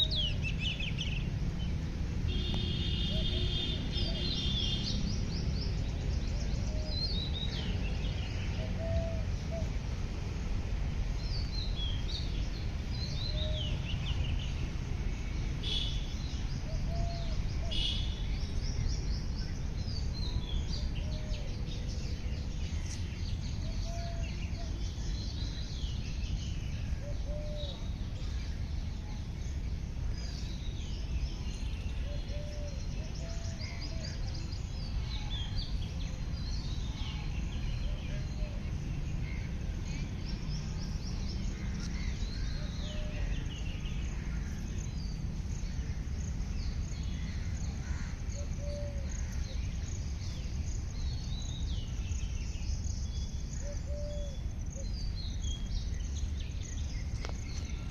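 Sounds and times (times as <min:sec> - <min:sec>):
birds chirping: 0:00.0 - 0:09.8, 0:11.1 - 0:57.9.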